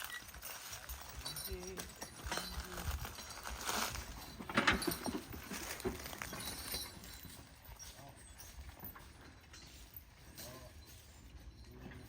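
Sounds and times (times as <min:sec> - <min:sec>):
harness chains clinking: 0:00.0 - 0:12.0
hoof steps: 0:00.0 - 0:12.0.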